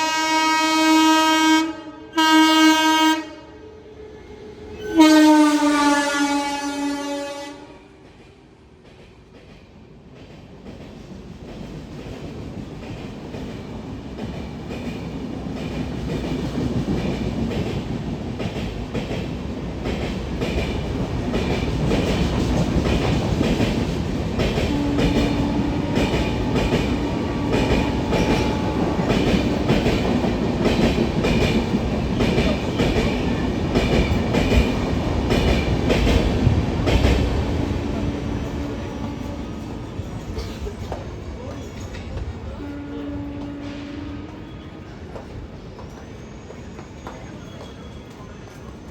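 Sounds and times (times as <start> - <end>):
train rumble: 4.5 - 48.9.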